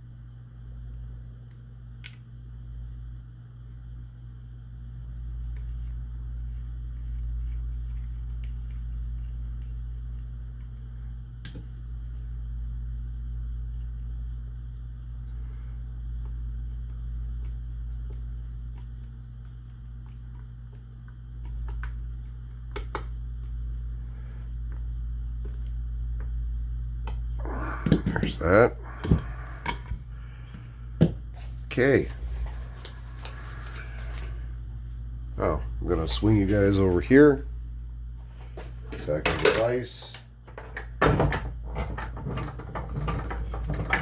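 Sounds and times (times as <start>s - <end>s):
workshop room hum: 0.0s - 44.0s.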